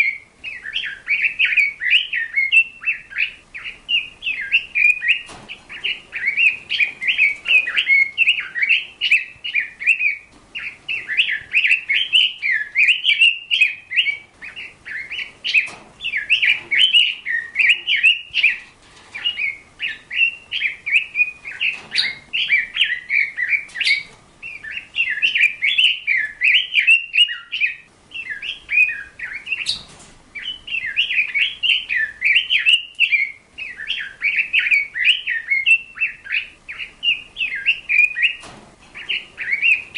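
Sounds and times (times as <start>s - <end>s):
bird twittering and warbling: 0.0s - 39.9s.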